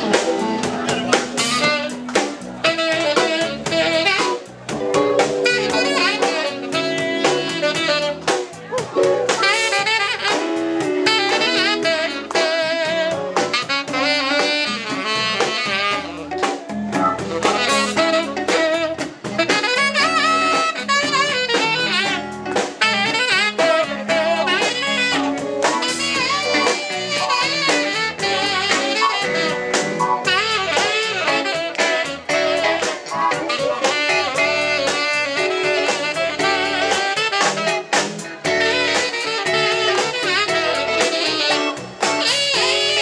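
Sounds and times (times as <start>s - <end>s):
drum kit: 0.0s - 43.0s
electric bass: 0.0s - 43.0s
guitar: 0.0s - 43.0s
saxophone solo: 0.0s - 43.0s.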